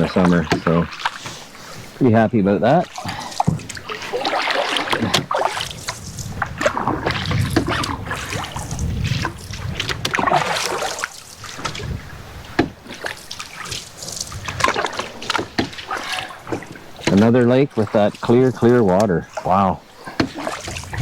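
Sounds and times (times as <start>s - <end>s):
paddle strokes splashing water: 0.0s - 21.0s.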